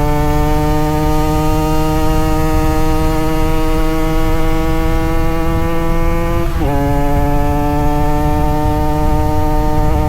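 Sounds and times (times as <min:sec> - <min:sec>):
two-stroke motorcycle engine: 0:00.0 - 0:10.0.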